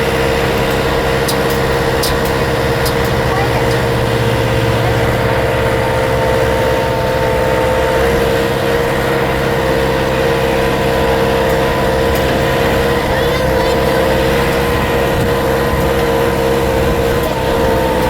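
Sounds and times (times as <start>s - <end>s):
constant high whine: 0.0s - 18.0s
tractor engine running: 0.0s - 18.0s.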